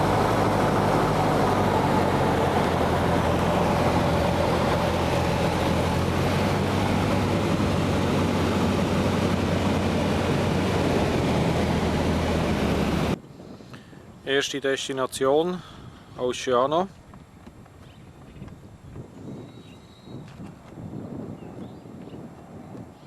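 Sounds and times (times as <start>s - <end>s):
airplane engine and propeller drone: 0.0s - 23.0s.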